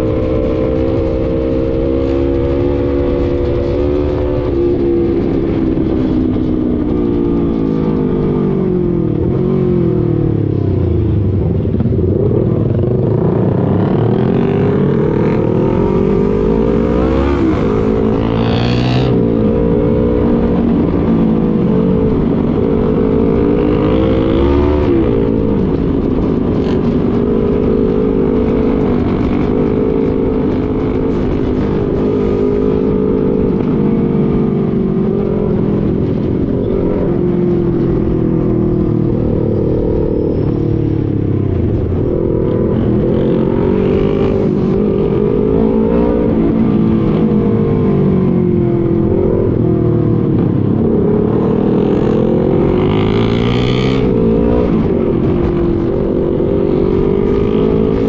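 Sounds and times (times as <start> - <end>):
constant rushing noise: 0.0 - 58.0
motorcycle engine revving: 0.0 - 58.0.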